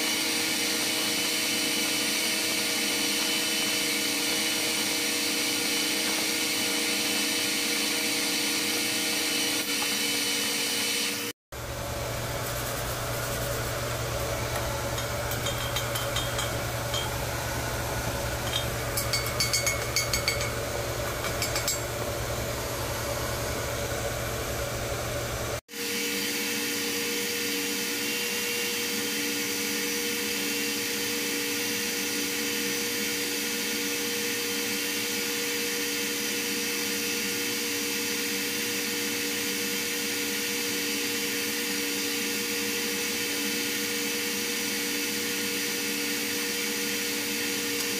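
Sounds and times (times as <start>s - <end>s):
workshop machinery drone: 0.0s - 47.9s.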